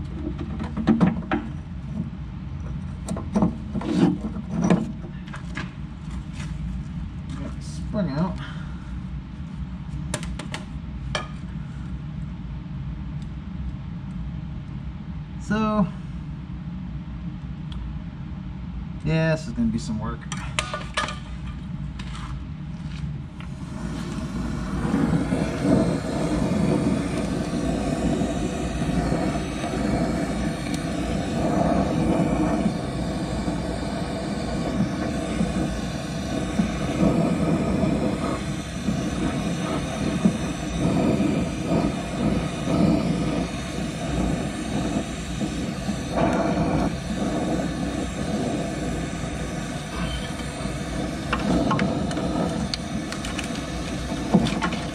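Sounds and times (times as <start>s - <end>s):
gas torch flame roaring: 0.0s - 12.1s, 23.0s - 54.9s.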